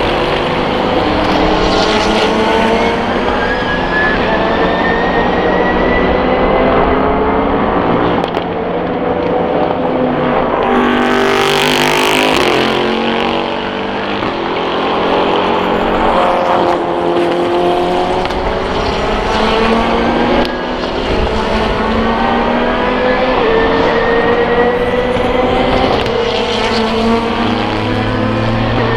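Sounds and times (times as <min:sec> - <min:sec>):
racing cars accelerating: 0:00.0 - 0:28.9.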